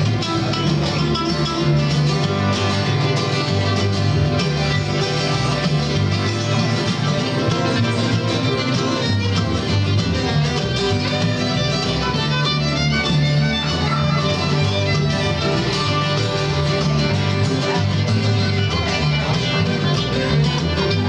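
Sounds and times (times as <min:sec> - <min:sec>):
bowed fiddle melody: 0:00.0 - 0:21.0
plucked upright bass: 0:00.0 - 0:21.0
strummed mandolin: 0:00.0 - 0:21.0.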